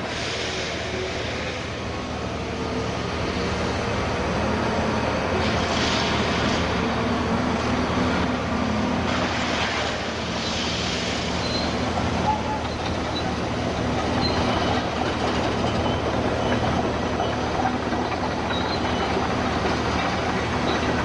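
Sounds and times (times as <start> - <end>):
diesel engines running: 0.0 - 21.0.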